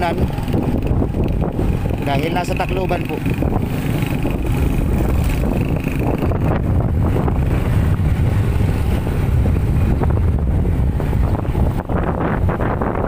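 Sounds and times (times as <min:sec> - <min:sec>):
motorcycle engine and road noise: 0:00.0 - 0:13.0
wind buffeting microphone: 0:00.0 - 0:13.0.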